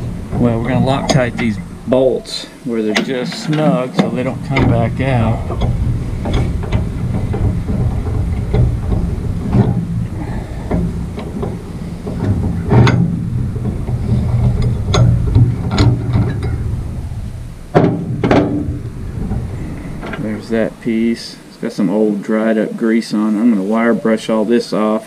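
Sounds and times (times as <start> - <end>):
steady low rumble: 0.0 - 22.3.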